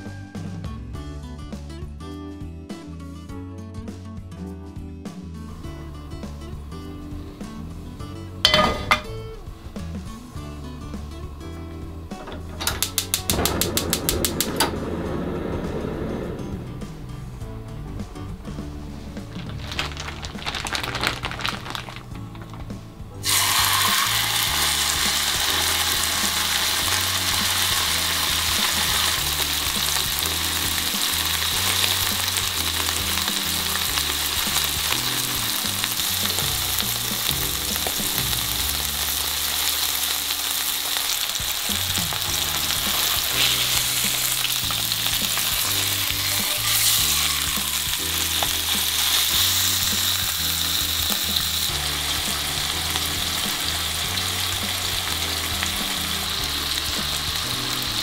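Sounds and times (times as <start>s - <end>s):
chicken sizzling in frying pan: 5.6s - 16.2s, 18.9s - 58.0s.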